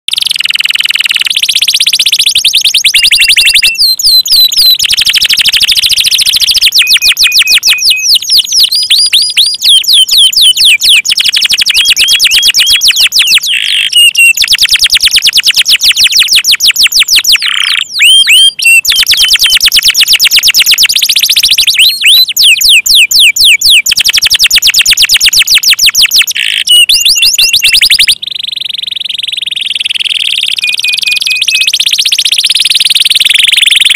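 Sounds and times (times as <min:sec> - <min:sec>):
canary singing fast trills: 0:00.1 - 0:33.9.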